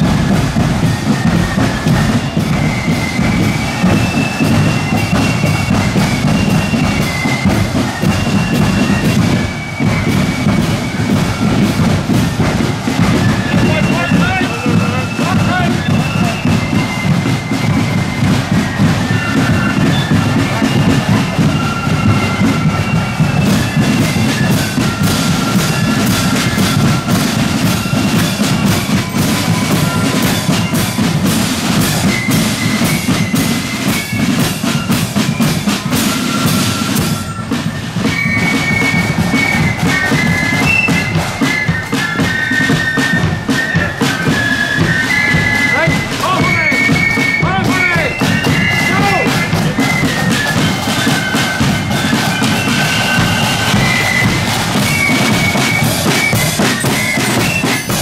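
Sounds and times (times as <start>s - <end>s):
flute melody: 0.0s - 58.0s
side drums rattling: 0.0s - 58.0s.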